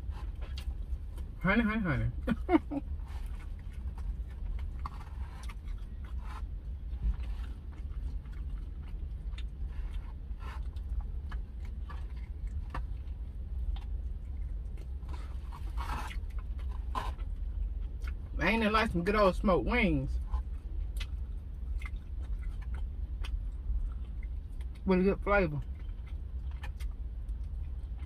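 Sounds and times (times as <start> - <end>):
chewing and mouth sounds: 0.0 - 19.0, 20.0 - 28.0
low steady hum: 0.0 - 28.0.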